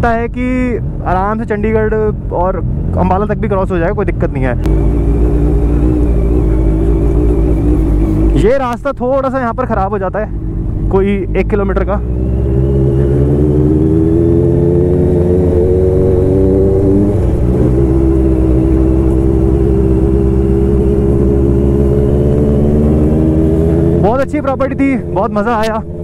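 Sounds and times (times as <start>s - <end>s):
motorcycle engine running: 4.2s - 26.0s.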